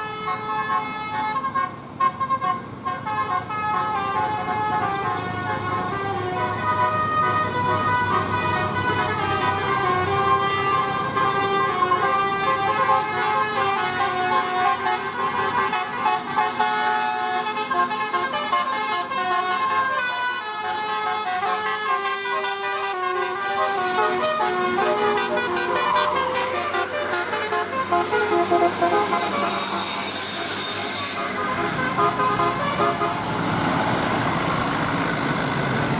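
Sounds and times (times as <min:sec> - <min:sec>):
multi-tone air horn playing a tune: 0:00.0 - 0:33.4.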